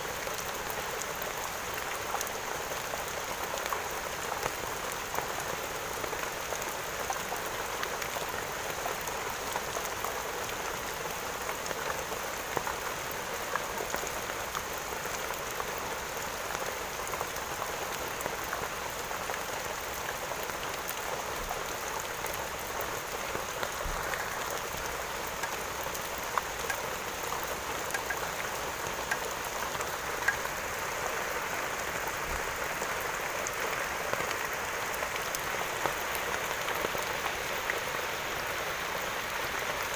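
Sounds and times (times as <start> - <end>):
steady rain hissing: 0.0 - 39.9
raindrop ticks: 3.0 - 37.8.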